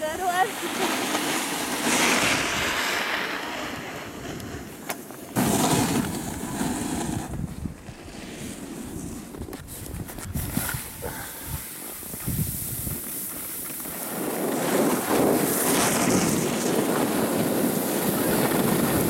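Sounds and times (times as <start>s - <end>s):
wind over microphone: 0.0s - 2.9s, 6.0s - 19.0s
snowboard scraping on snow: 0.0s - 19.0s.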